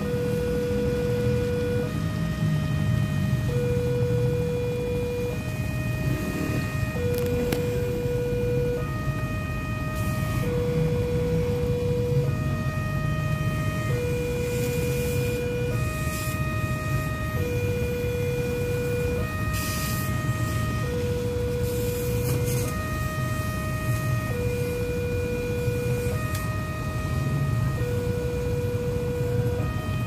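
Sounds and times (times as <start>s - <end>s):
low traffic rumble: 0.0s - 30.0s
two-tone level crossing alarm: 0.0s - 30.0s.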